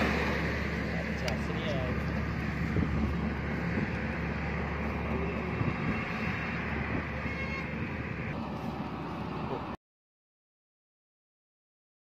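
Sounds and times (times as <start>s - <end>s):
low hum: 0.0s - 9.8s
rushing background noise: 0.0s - 9.8s.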